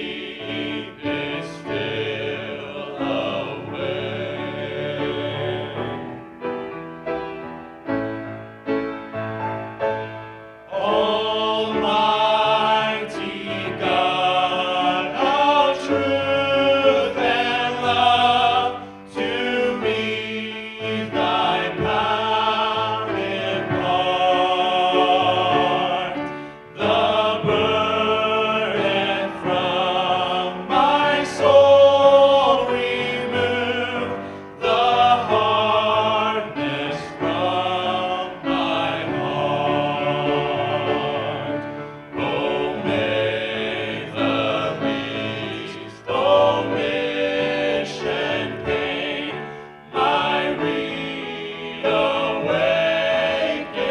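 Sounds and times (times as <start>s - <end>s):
vocal group singing gospel: 0.0s - 6.2s, 10.7s - 53.9s
instrumental accompaniment: 0.0s - 53.9s.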